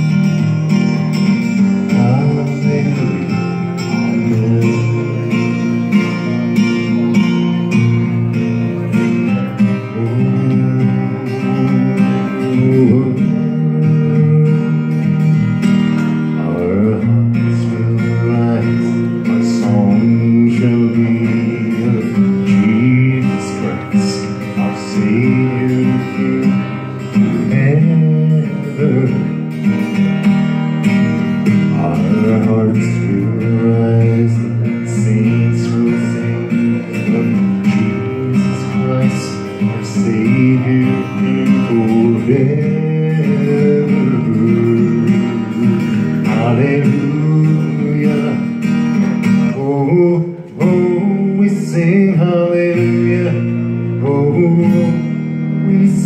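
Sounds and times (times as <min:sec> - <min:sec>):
acoustic guitar strummed: 0:00.0 - 0:56.0.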